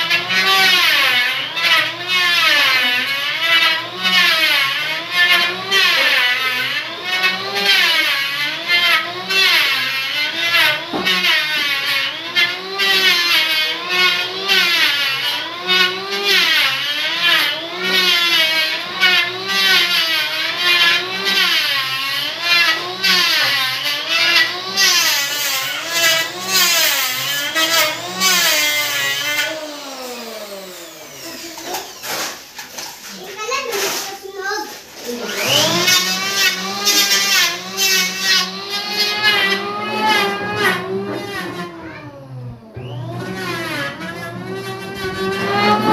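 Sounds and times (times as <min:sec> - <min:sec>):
electric hand planer whine: 0:00.0 - 0:33.2, 0:35.2 - 0:45.9.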